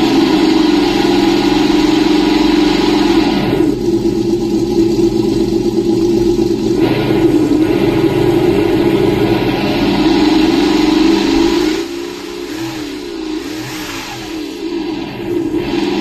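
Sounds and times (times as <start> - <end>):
simulated engine through speaker: 0.0 - 16.0.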